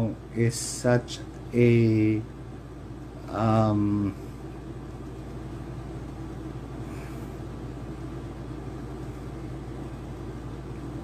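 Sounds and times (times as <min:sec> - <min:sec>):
low room hum with hiss: 0:00.0 - 0:11.0.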